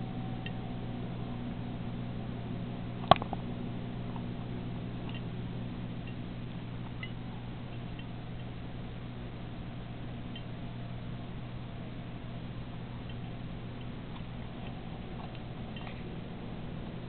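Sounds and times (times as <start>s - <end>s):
aquarium filter pump humming: 0.0s - 17.0s.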